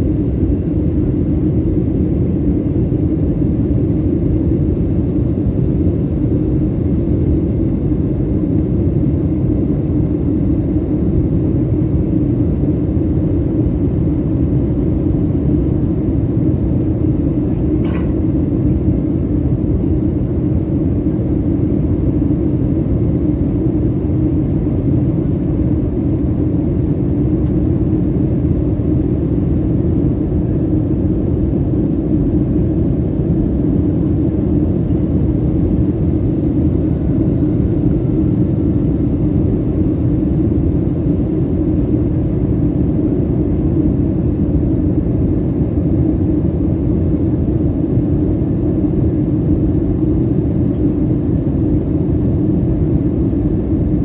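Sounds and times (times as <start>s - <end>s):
jet engine cabin noise: 0.0s - 54.0s.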